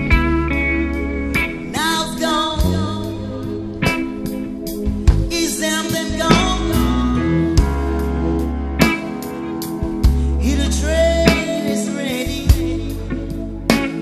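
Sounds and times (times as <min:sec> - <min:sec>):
guitar song over drum beat: 0:00.0 - 0:14.0.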